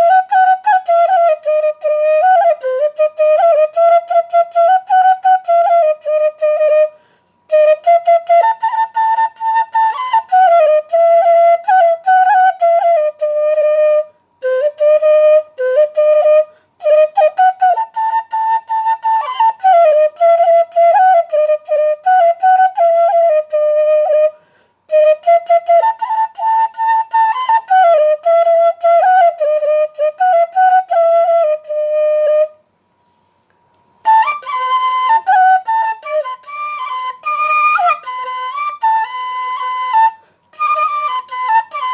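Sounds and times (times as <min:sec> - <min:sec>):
flute solo melody: 0:00.0 - 0:32.6, 0:34.0 - 0:41.9.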